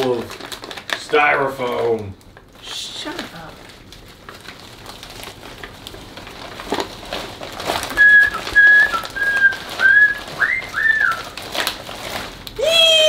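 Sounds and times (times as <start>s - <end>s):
wrapping paper rustling and tearing: 0.0s - 13.0s.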